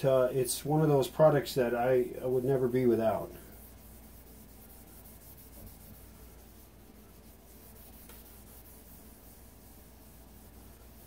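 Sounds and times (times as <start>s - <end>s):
rag rubbing on a cabinet: 1.0s - 11.0s.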